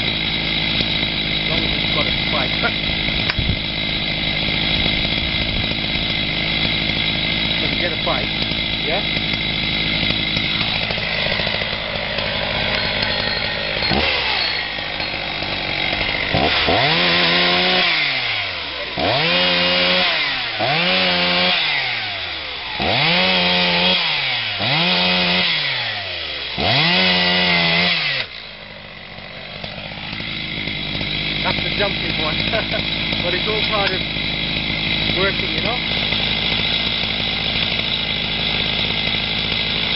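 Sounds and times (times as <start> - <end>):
chainsaw revving cutting log: 0.0 - 39.9.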